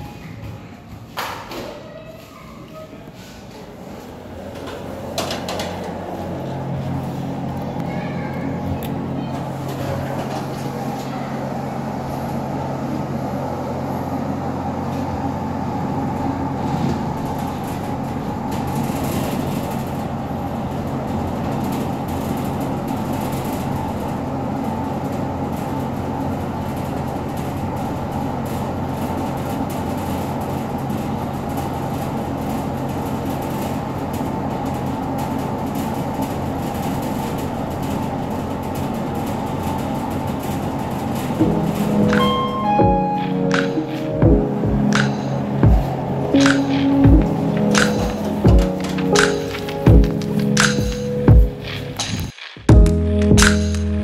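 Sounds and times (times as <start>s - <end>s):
lift car humming and rumbling: 1.8s - 54.0s.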